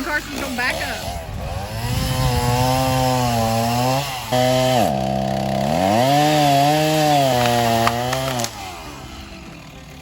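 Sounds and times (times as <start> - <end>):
chainsaw running at high throttle: 0.0 - 10.0.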